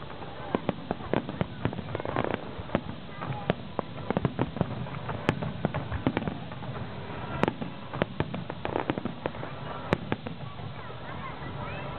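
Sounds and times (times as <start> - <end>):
firework shells bursting: 0.0 - 11.0
firework crackling: 0.0 - 11.9.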